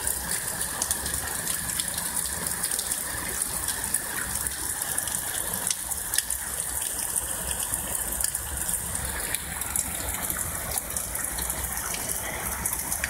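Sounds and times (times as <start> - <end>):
heavy rain pouring: 0.0 - 13.0
raindrops ticking nearby: 0.0 - 13.0.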